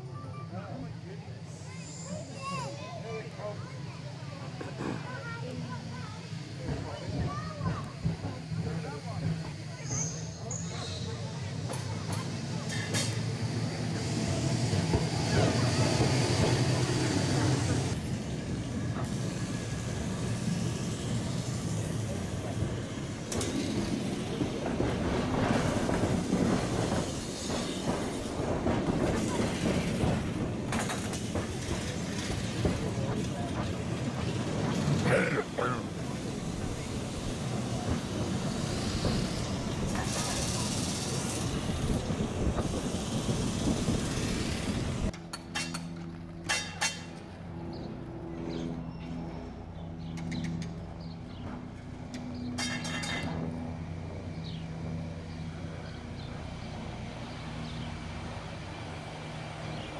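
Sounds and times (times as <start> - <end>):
tram wheels clattering over rails: 4.4 - 47.8, 48.5 - 59.9.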